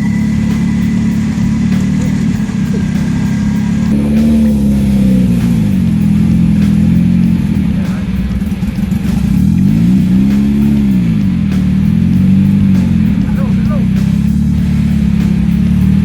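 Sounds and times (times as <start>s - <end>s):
background music: 0.0s - 16.0s
engine revving: 0.0s - 16.0s.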